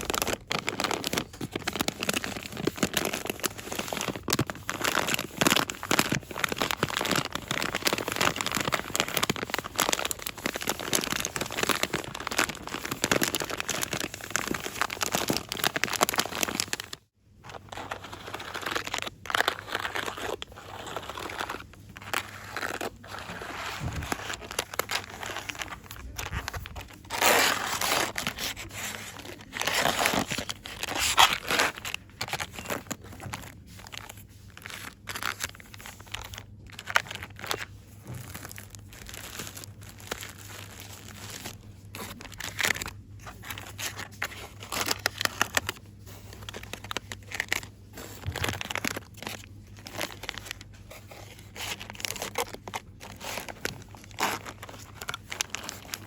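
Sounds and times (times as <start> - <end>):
packaging crinkling: 0.0 - 56.0.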